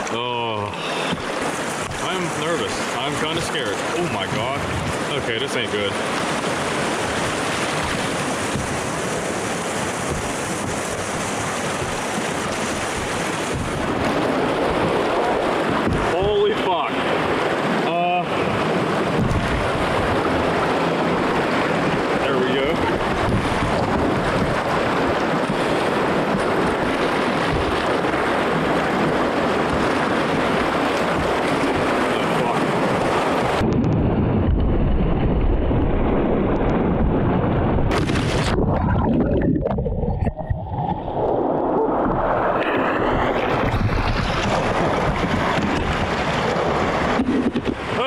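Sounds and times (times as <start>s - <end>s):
whitewater rapids rushing: 0.0s - 33.6s, 41.0s - 48.0s
paddle splashing: 0.0s - 48.0s
wind buffeting microphone: 0.0s - 48.0s.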